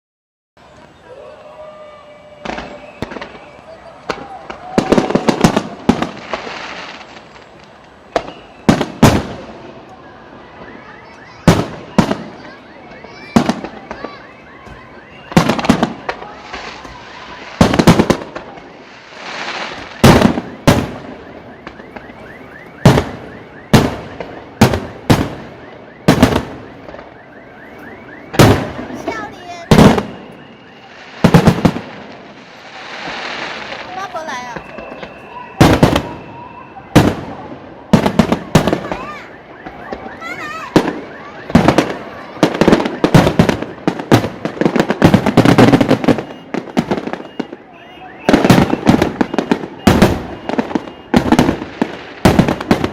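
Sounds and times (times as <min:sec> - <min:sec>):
fireworks booming overhead: 0:00.6 - 0:52.9.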